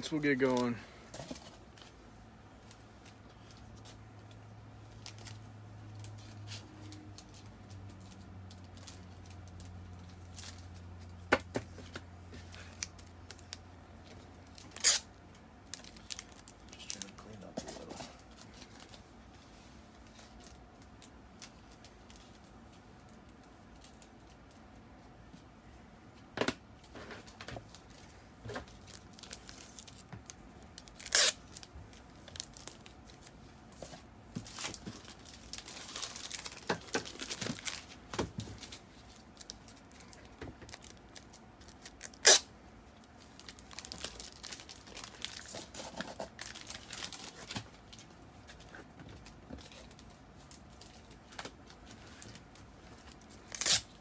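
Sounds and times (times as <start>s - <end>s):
packaging crinkling and rustling: 2.6s - 19.3s, 26.8s - 54.0s.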